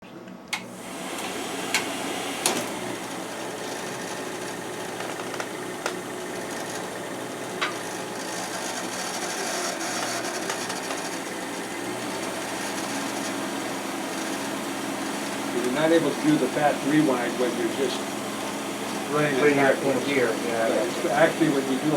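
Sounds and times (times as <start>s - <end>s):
film projector running: 0.5s - 21.9s.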